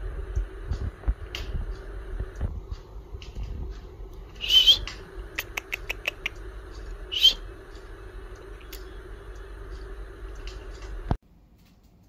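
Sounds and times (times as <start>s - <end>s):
sharp ticks: 0.3s - 11.0s.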